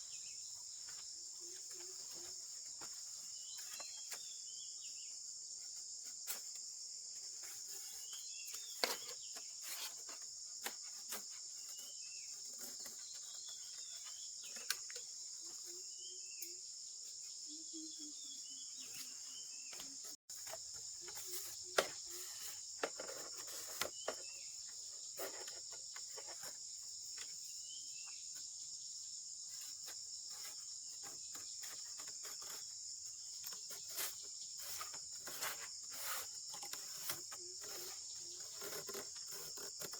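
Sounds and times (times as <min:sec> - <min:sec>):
crickets chorus: 0:00.0 - 0:39.9.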